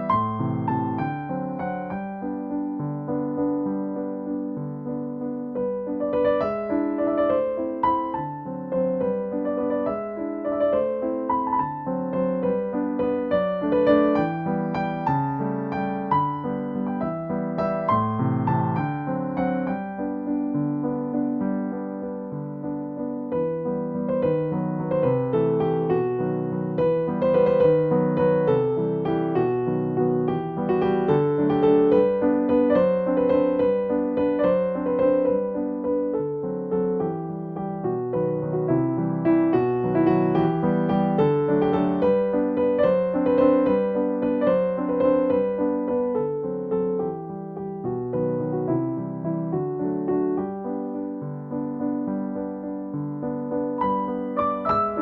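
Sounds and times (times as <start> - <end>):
gentle piano melody: 0.0 - 55.0.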